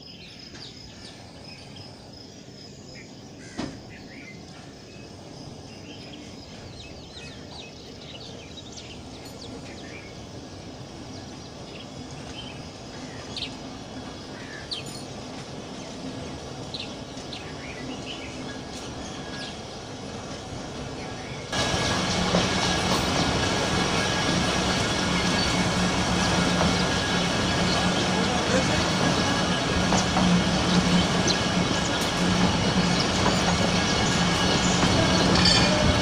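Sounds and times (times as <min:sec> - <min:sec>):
train rumbling: 0:00.0 - 0:36.0
small birds chirping: 0:03.9 - 0:35.8.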